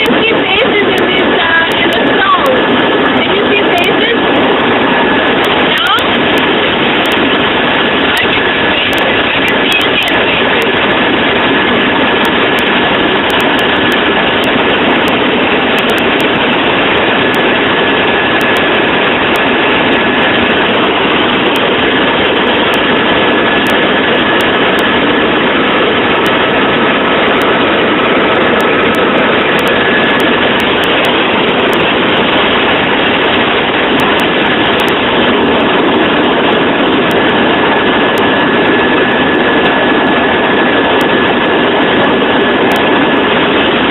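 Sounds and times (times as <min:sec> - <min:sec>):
helicopter engine and rotor: 0:00.0 - 0:43.9
thin high whine: 0:00.0 - 0:43.9.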